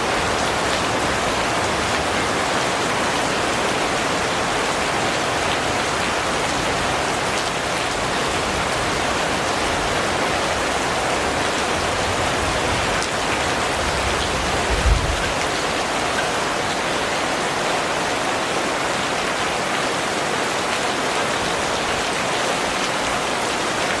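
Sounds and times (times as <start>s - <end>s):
rain pattering on surfaces: 0.0s - 24.0s.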